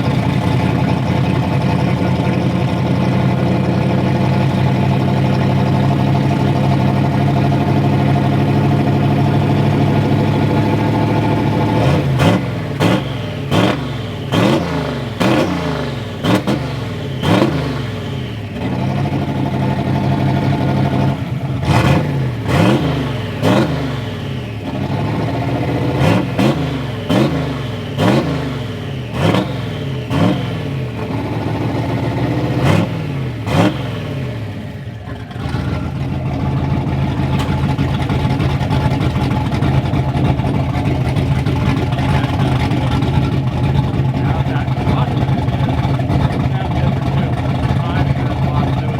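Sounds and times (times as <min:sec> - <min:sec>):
engine idling and revving: 0:00.0 - 0:48.9.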